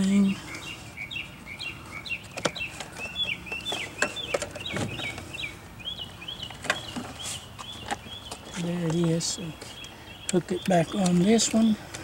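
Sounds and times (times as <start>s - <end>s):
small bird chirping: 0.0s - 11.8s.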